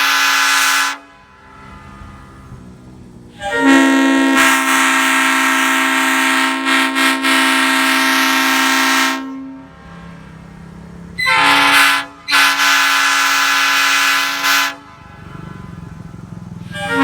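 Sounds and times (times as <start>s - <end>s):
locomotive air horn: 0.0s - 17.0s.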